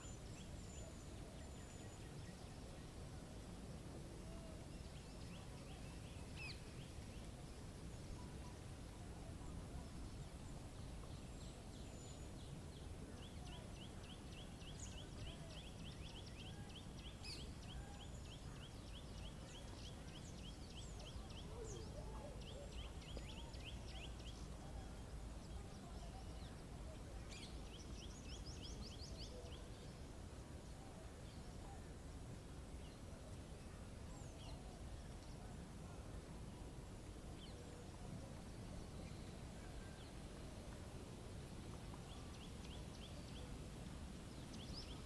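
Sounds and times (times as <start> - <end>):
birds singing faintly: 0.0 - 45.0.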